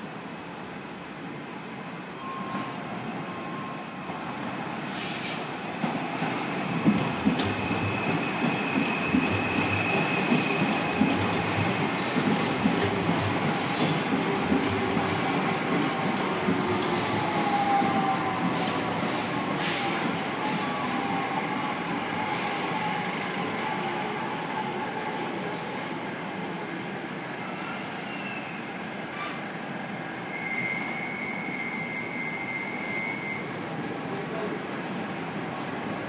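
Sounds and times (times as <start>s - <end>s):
train running on track: 0.0s - 36.0s.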